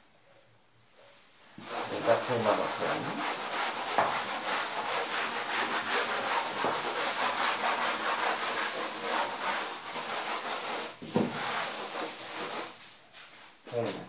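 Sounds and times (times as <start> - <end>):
duster scrubbing a chalkboard: 1.6 - 14.0.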